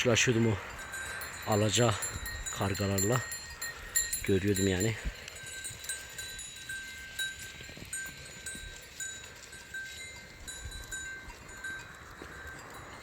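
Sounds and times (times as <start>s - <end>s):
sheep bells clinking: 0.0s - 13.0s.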